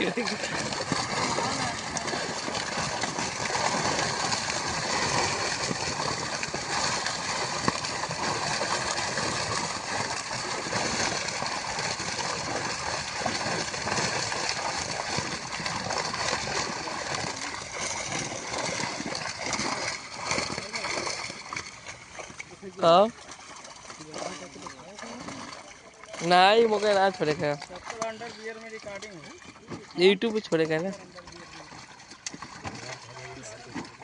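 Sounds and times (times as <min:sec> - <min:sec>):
flowing water gurgling: 0:00.0 - 0:34.0.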